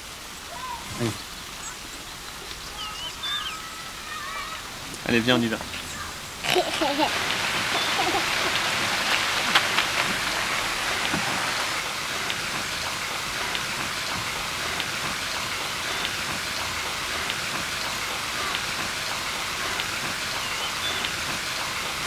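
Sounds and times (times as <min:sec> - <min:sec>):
splashing falling water: 0:00.0 - 0:22.0.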